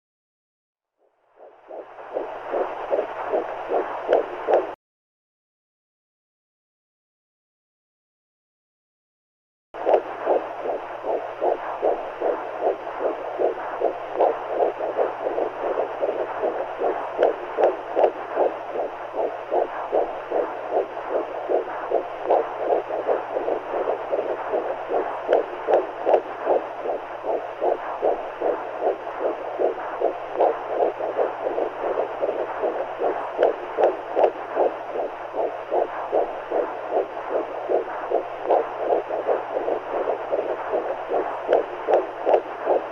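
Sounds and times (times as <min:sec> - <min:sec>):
faint steady hum: 0:01.0 - 0:04.8, 0:09.8 - 0:42.9
pulsing whooshing heartbeat: 0:01.2 - 0:04.8, 0:09.8 - 0:42.9.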